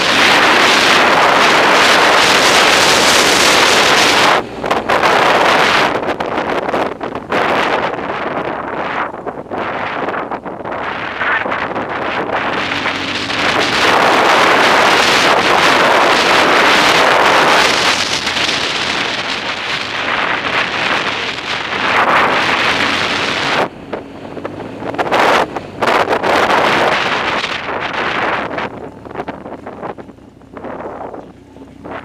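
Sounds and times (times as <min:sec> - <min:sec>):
motorcycle engine running: 0:00.0 - 0:32.0
wind buffeting microphone: 0:00.0 - 0:32.0.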